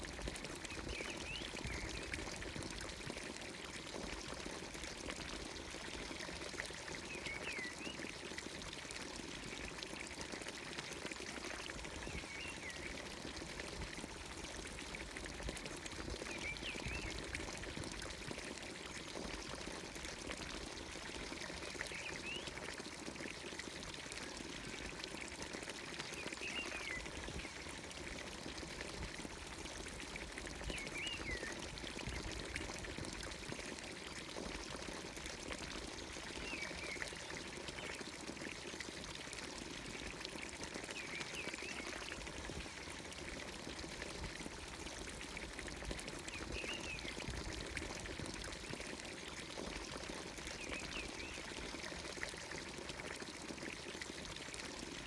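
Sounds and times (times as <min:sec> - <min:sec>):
water pouring from fountain spout: 0:00.0 - 0:55.0.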